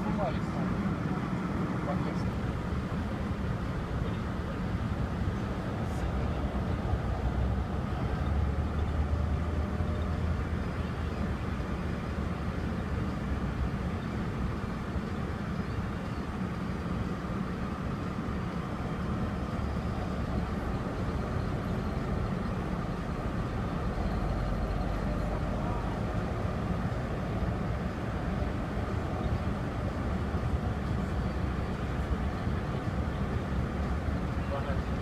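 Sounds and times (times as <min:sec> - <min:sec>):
motor vehicle rumbling: 0:00.0 - 0:35.0
steady noisy hiss: 0:00.0 - 0:35.0.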